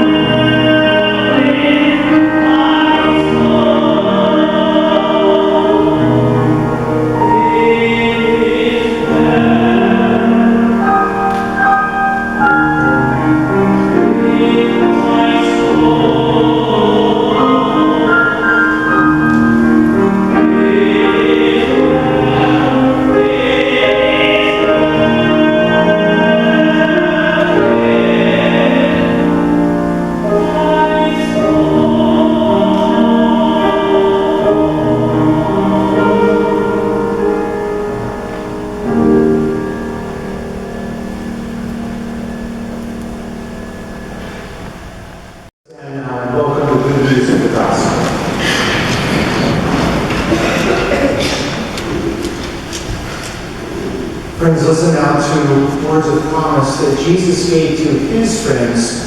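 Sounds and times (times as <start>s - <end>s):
group singing a hymn: 0.0s - 44.7s, 45.8s - 59.0s.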